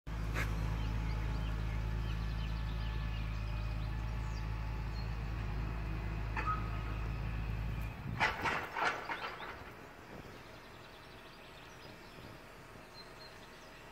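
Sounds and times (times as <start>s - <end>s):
birds chirping: 0.1s - 13.9s
tractor engine droning: 0.1s - 13.9s.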